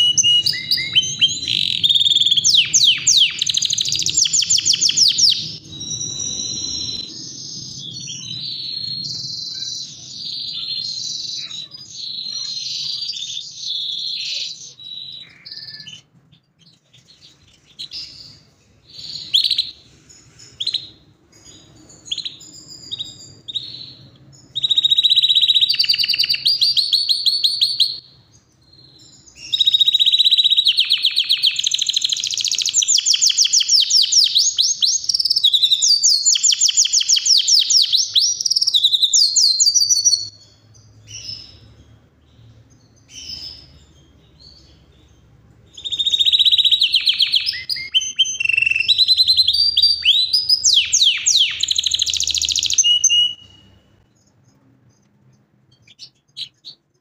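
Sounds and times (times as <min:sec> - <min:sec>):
bird chirps: 0:00.0 - 0:57.0
canary singing trills: 0:00.0 - 0:57.0.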